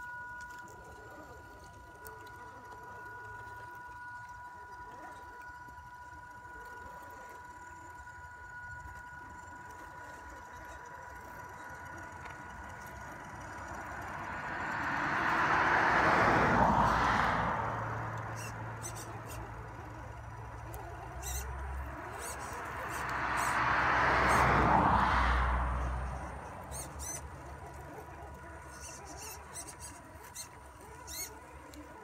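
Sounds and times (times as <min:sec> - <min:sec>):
electric motors whining: 0:00.0 - 0:32.0.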